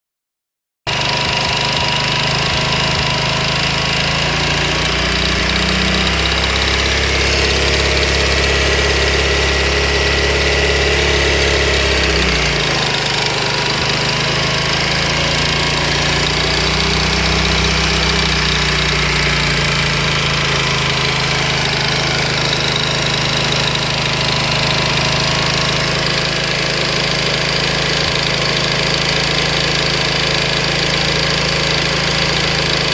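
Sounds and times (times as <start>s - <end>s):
abnormal mechanical engine noise: 0.9s - 32.9s
motorcycle engine revving: 0.9s - 32.9s.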